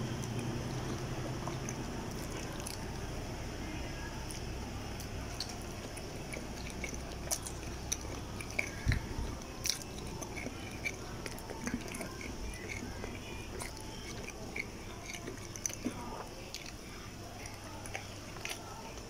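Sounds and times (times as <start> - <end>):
person chewing food: 0.0 - 3.4, 4.2 - 19.0
steady low hum: 0.0 - 19.0.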